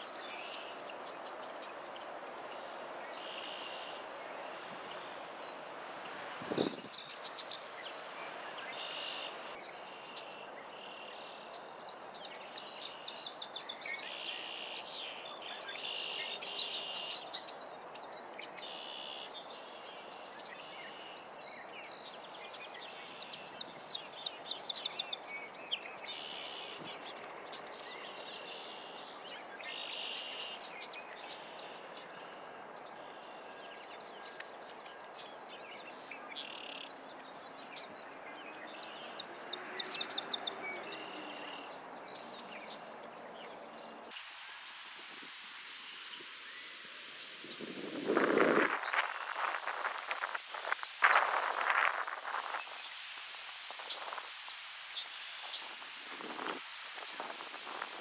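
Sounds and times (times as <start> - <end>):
marsh background hiss: 0.0 - 58.0
small birds chirping: 0.0 - 58.0.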